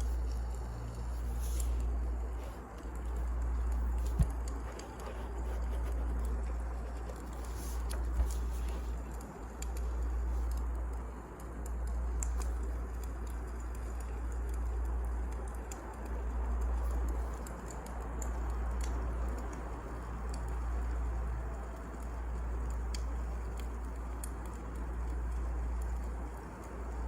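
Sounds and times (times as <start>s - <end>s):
firewood crackling and popping: 0.0s - 27.0s
low fire rumble: 0.0s - 27.0s.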